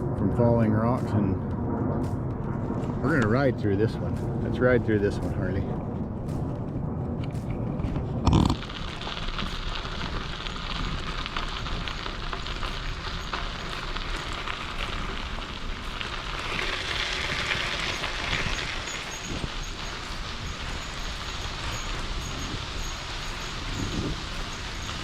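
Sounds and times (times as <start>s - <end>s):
bicycle tyres rolling on trail: 0.0s - 25.0s.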